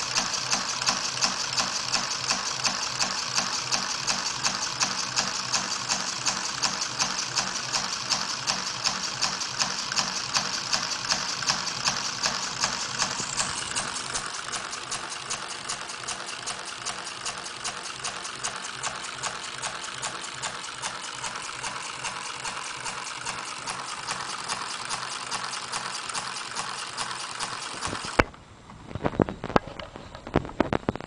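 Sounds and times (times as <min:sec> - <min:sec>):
pneumatic engine puffing and clicking: 0:00.0 - 0:31.0.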